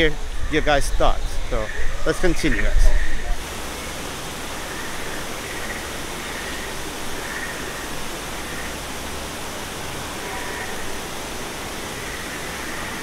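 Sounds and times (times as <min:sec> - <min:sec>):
waterfall rushing: 0:02.2 - 0:13.0.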